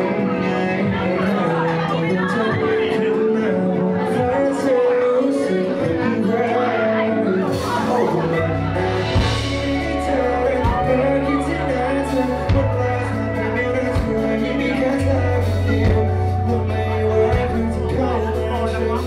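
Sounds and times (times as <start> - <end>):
bass line: 0.0 - 19.0
person singing: 0.0 - 19.0.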